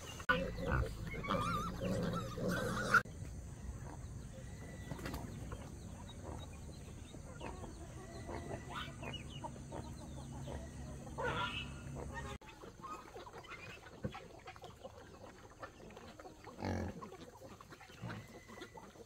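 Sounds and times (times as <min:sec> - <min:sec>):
chickens clucking and peeping: 0:00.0 - 0:19.0.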